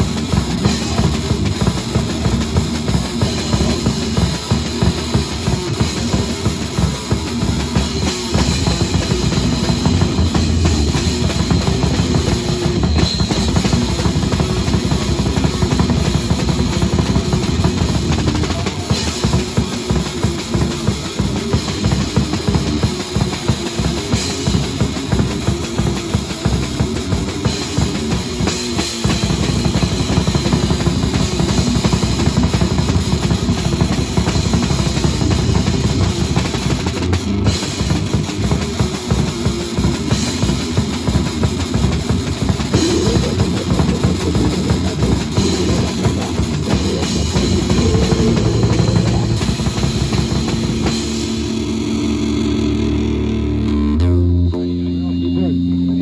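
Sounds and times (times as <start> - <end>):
ringing guitar and bass notes: 0.0 - 22.6, 30.1 - 38.6, 40.1 - 56.0
live rock band playing: 0.0 - 51.4
drum kit hitting rapidly: 0.0 - 51.7.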